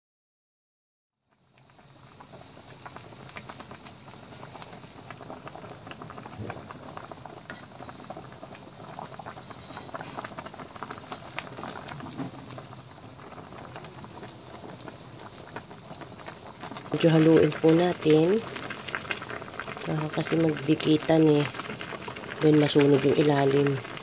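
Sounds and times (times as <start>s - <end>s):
water boiling in a pot: 1.2s - 24.0s.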